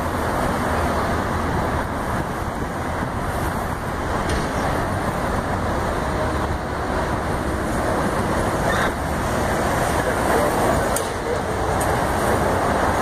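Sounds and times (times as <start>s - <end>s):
road traffic rushing: 0.0s - 13.0s.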